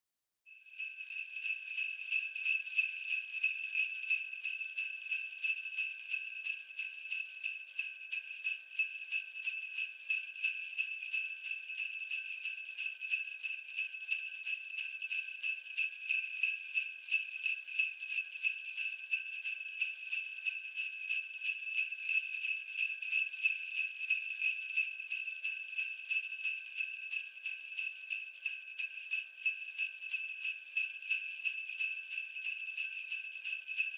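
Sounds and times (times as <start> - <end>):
sleigh bells shaking: 0.7 - 9.1, 9.8 - 33.9.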